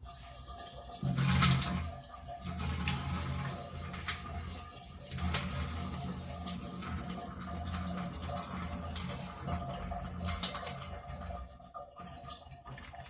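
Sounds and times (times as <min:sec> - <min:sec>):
water pouring and splashing: 0:00.0 - 0:13.0.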